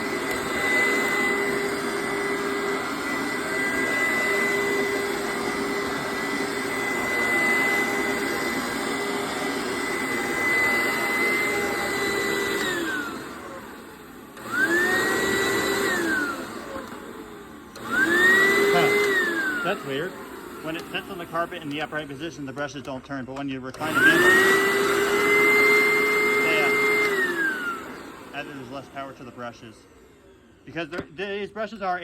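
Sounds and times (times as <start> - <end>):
carpet cleaner motor whining: 0.0 - 32.0.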